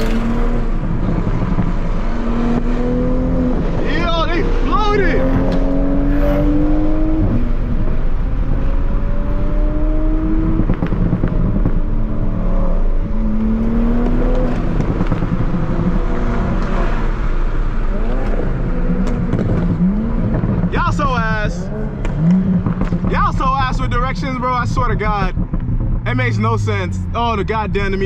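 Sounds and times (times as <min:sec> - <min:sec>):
car engine accelerating hard: 0:00.0 - 0:28.0
road rumble: 0:00.0 - 0:28.0.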